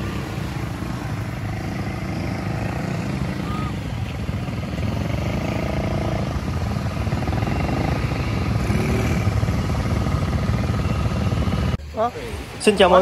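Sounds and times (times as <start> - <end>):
small off-road engines running: 0.0 - 13.0.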